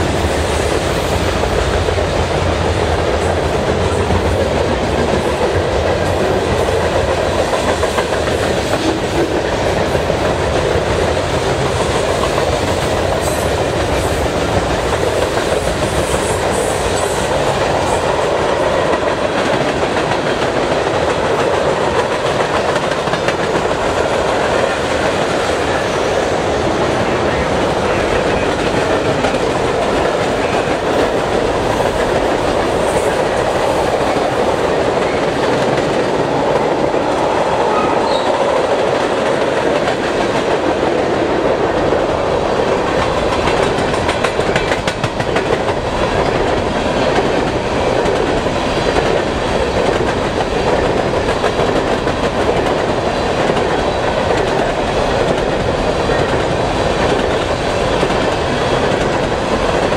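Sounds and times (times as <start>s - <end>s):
clickety-clack over rail joints: 0.0s - 59.9s
freight train wheels rumbling on rails: 0.0s - 59.9s.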